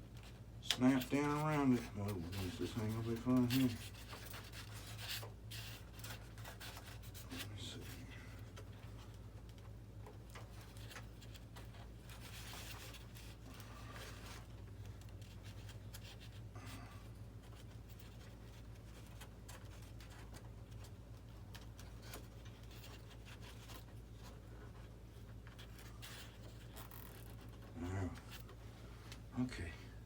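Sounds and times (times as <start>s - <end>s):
wires and plastic parts rubbing: 0.0s - 29.6s
low electrical hum: 0.0s - 30.0s.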